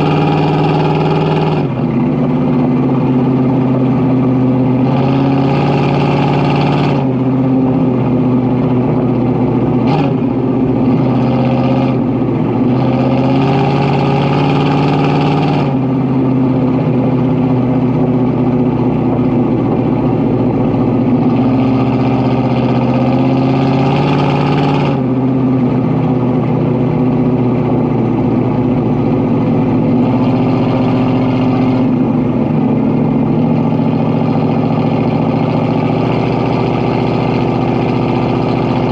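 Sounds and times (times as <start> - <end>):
engine exhaust running: 0.0 - 38.9.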